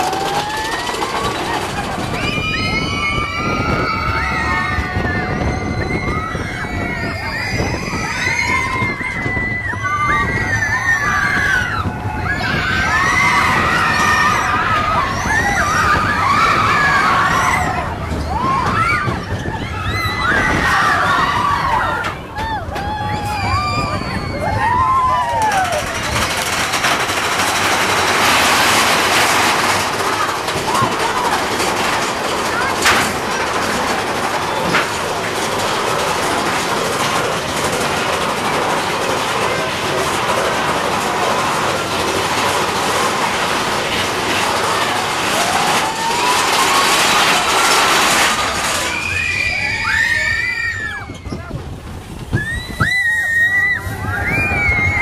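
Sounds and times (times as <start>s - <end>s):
riders screaming and whooping: 0.0s - 55.0s
roller coaster train rumbling on track: 0.0s - 55.0s.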